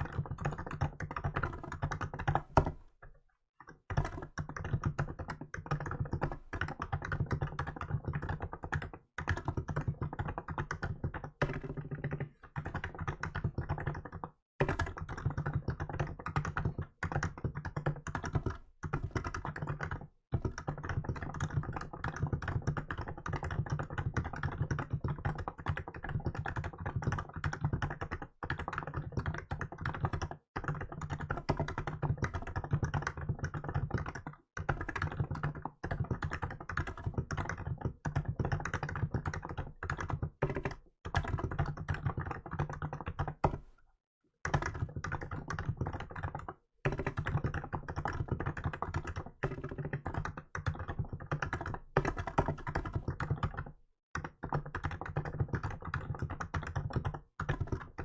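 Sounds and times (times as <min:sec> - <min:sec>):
fast keyboard typing: 0:00.0 - 0:43.8, 0:44.4 - 0:58.0.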